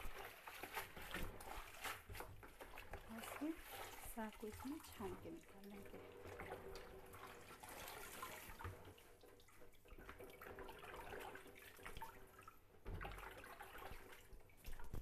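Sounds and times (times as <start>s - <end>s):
water sloshing and dripping: 0.0s - 15.0s.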